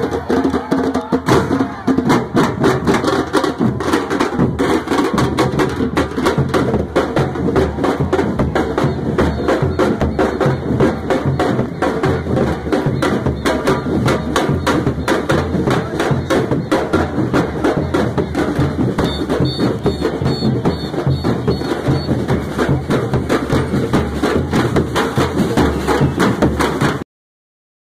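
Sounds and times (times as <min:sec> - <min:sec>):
bass drums: 0:00.0 - 0:27.0
snare drums: 0:00.0 - 0:27.0.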